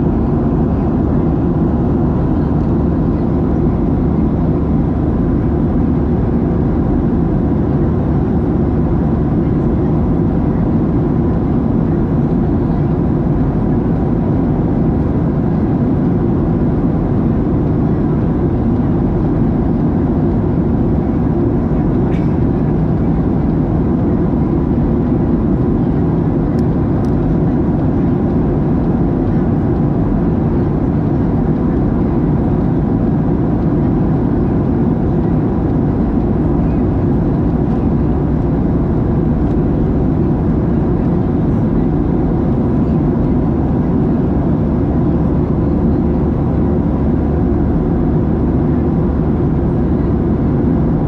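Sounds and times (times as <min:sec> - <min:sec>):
aircraft cabin engine rumble: 0:00.0 - 0:51.0.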